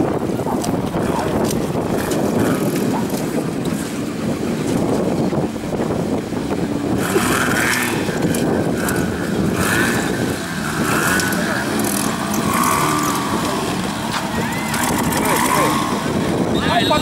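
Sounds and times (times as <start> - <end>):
off-road vehicle engine running: 0.0 - 17.0
wind buffeting microphone: 0.0 - 17.0.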